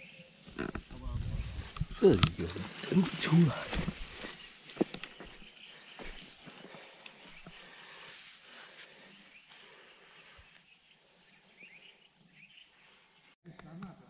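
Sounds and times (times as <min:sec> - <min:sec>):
insects chirping: 0:00.0 - 0:13.4.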